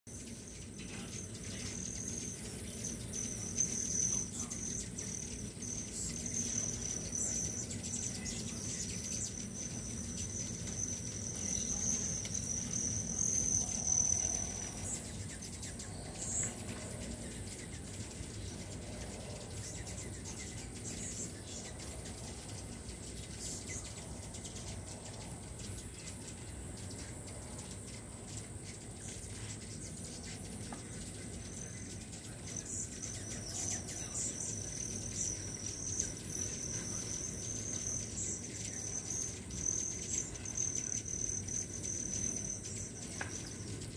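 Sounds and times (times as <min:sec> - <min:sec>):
hummingbird wings humming: 0:00.1 - 0:43.9
steady high-pitched buzz: 0:00.1 - 0:43.9.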